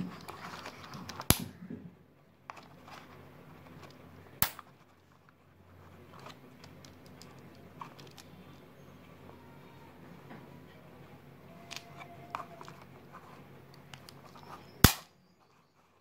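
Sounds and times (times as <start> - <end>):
faint handling rustle: 0.0 - 1.7, 2.4 - 16.0.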